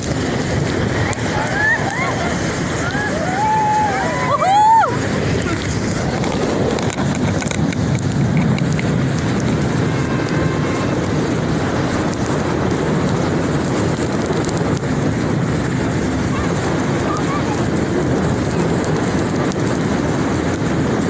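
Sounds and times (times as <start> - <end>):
rushing water spray: 0.0 - 21.0
wind buffeting microphone: 0.0 - 21.0.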